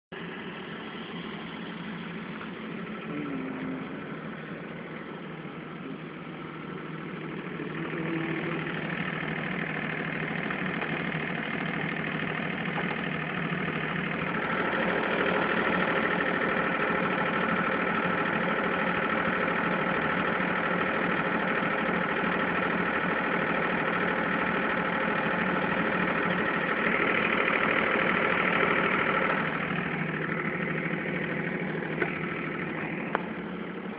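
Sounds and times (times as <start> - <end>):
generator engine running: 0.1 - 33.9.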